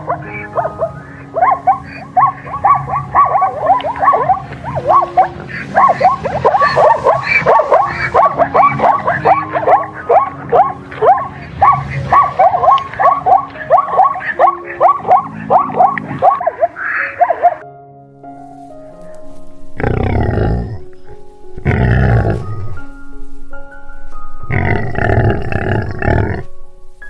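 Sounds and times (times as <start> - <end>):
puppies yipping and whimpering: 0.0 - 17.6, 18.8 - 27.0.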